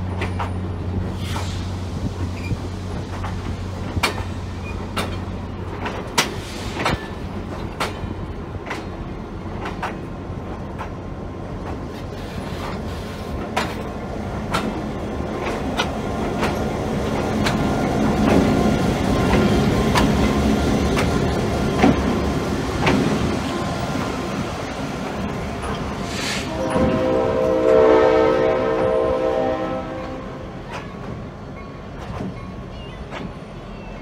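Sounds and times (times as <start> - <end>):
train wheels clicking over rail joints: 0.0 - 27.0, 30.6 - 33.9
diesel locomotive engine drone: 0.0 - 34.0
train rumble: 0.0 - 34.0.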